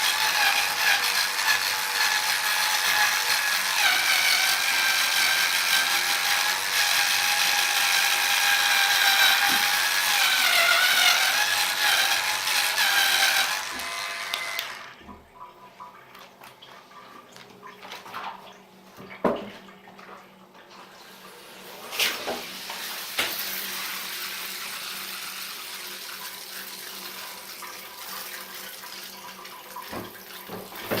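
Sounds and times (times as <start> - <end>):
bathroom water running: 0.0 - 31.0.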